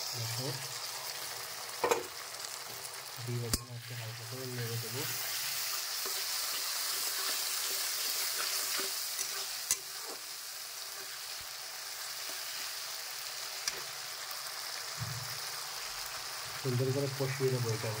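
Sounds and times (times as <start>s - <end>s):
spice paste sizzling in oil: 0.0s - 18.0s.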